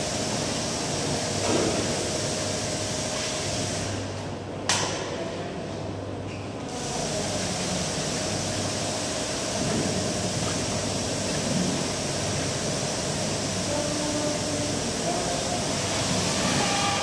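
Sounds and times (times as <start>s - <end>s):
machine whir and hiss: 0.0s - 5.0s, 5.8s - 17.0s.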